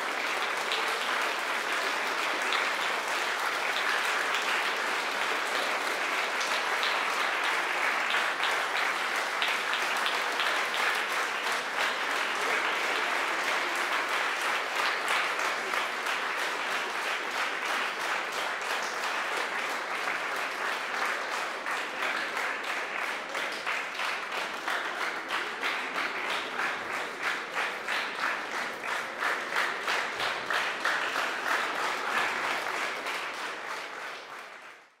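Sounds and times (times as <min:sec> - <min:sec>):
audience rhythmic clapping: 0:00.0 - 0:35.0.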